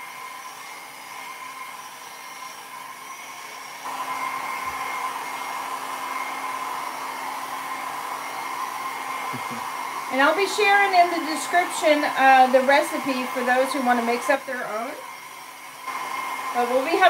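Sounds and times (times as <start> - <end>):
hot-air dryer blowing: 0.0 - 17.0.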